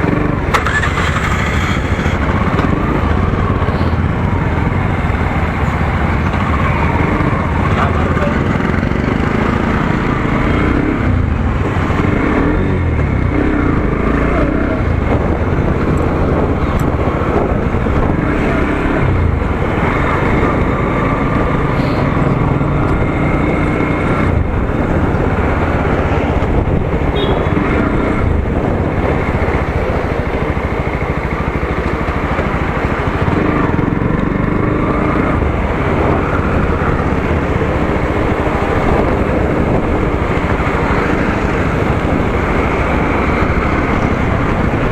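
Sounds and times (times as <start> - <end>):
motorcycle engine running: 0.0 - 44.9
road noise: 0.0 - 44.9.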